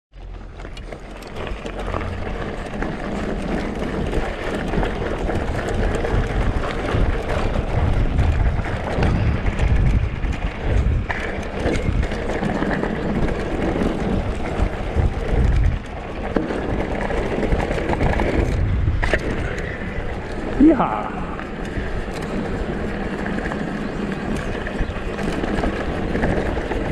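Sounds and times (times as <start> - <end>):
bike rattling: 0.1 - 26.9
wind buffeting microphone: 0.2 - 26.9.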